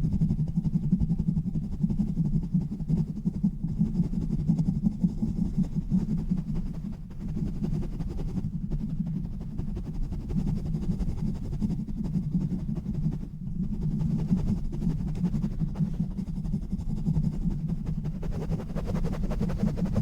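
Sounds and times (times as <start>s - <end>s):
rubbing on a microphone: 0.0s - 20.0s.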